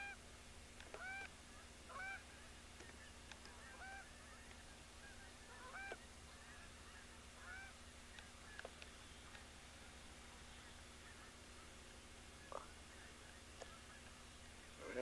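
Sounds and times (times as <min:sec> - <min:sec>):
geese honking: 0:00.9 - 0:15.0.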